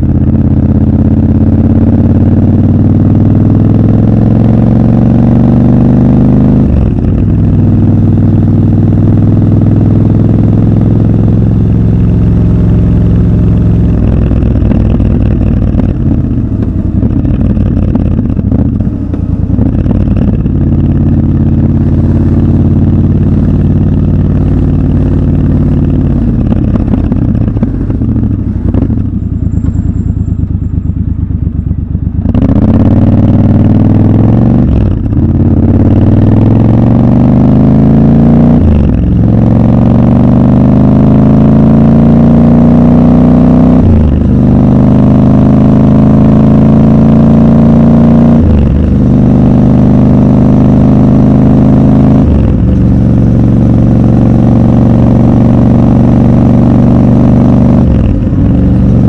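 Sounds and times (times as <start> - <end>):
motorcycle engine revving and idling: 0.0 - 59.0.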